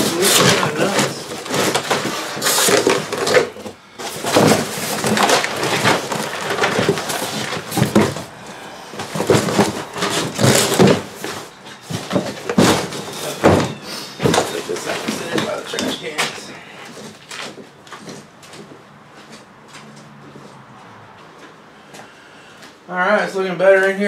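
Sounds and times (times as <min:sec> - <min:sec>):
objects rustling and knocking: 0:00.0 - 0:22.8.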